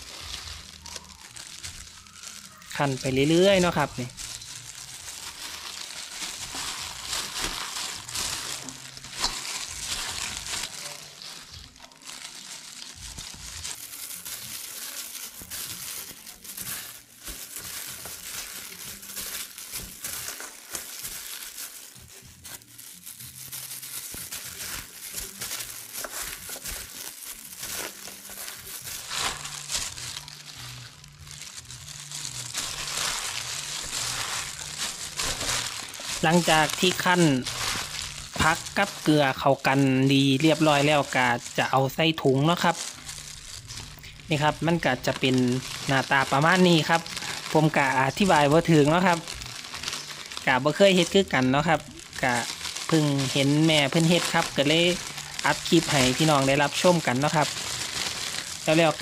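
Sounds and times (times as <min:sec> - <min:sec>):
plastic glove crinkling: 0:00.0 - 0:59.0
wet leaves being crushed: 0:00.0 - 0:59.0.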